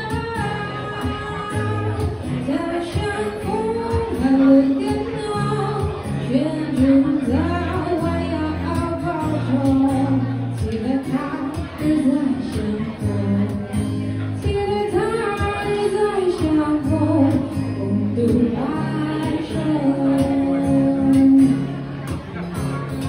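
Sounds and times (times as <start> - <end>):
woman singing: 0.0 - 21.7
acoustic guitar chords: 0.0 - 23.0.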